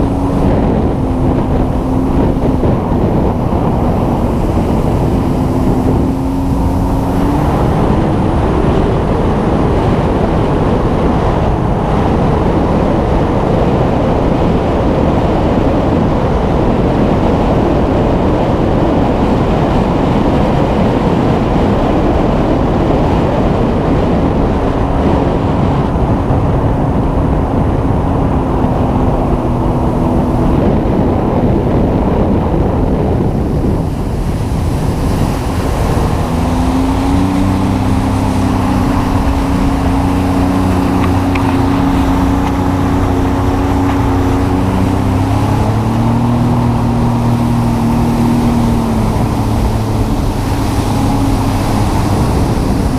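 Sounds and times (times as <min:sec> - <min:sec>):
engine running: 0:00.0 - 0:52.9
wind rush on microphone: 0:00.0 - 0:52.9.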